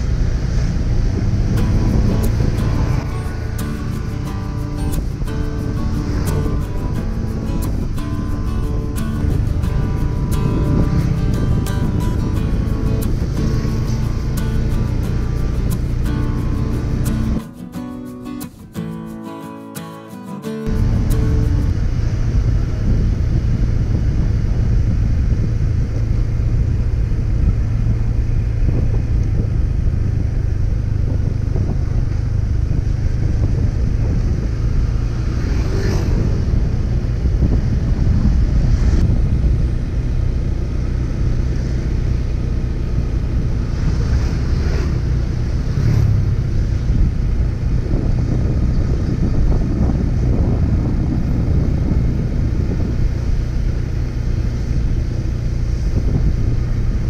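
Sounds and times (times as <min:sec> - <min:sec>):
wind buffeting microphone: 0:00.0 - 0:19.1, 0:20.6 - 0:57.0
road noise: 0:00.0 - 0:57.0
vehicle engine drone: 0:00.0 - 0:57.0.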